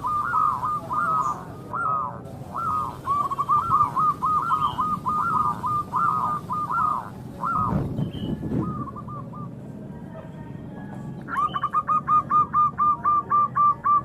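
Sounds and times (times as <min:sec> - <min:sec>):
dove cooing: 0:00.0 - 0:09.7, 0:11.3 - 0:14.0.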